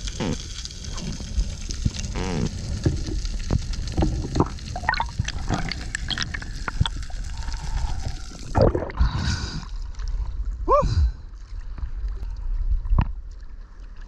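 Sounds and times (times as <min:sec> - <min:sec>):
underwater bubbling gurgles: 0:00.0 - 0:14.0.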